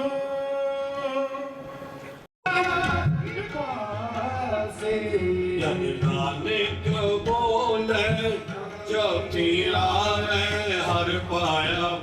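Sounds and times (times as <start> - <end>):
man singing: 0.0 - 1.7, 2.4 - 12.0.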